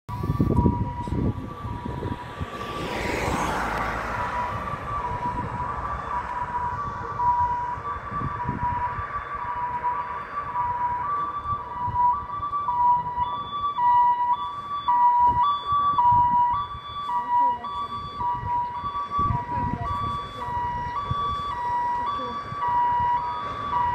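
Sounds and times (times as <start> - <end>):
two-tone fire engine siren: 0.1 - 23.9.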